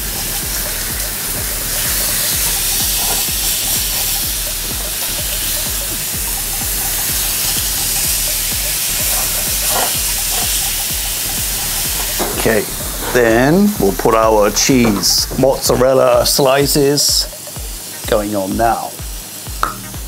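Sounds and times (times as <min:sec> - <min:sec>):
steak sizzling in a pan: 0:00.0 - 0:20.0.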